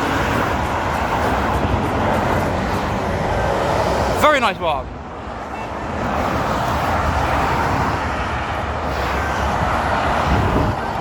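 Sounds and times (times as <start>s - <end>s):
heavy trucks passing: 0.0s - 11.0s.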